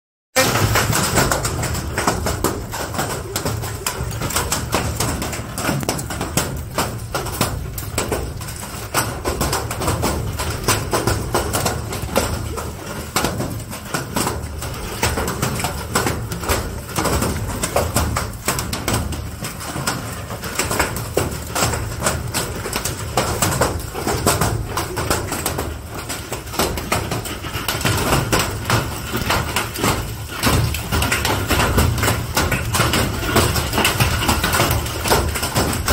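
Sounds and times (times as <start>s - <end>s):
hailstones clattering: 0.4s - 35.9s
heavy rain: 0.4s - 35.9s.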